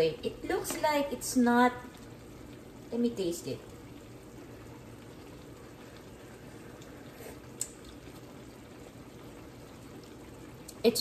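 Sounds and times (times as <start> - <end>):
stew bubbling in a pan: 0.0 - 11.0.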